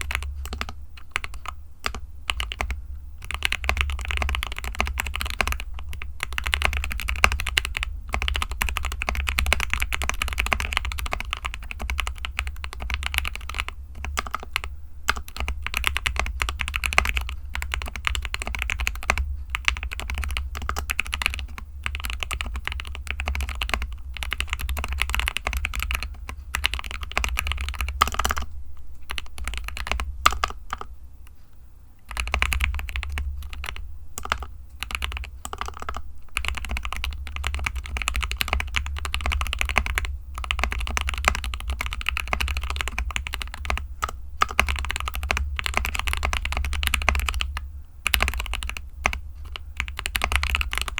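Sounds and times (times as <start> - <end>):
mechanical keyboard typing: 0.0 - 30.9, 32.0 - 50.9.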